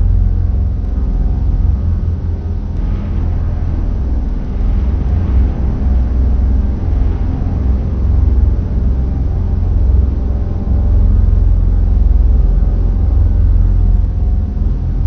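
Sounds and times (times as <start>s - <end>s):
deep rumble with low hum: 0.0s - 15.0s.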